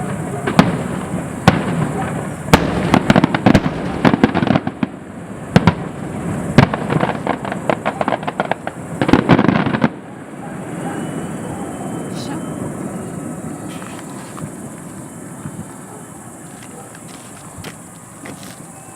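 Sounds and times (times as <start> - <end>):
fireworks bangs and crackling: 0.0 - 18.9.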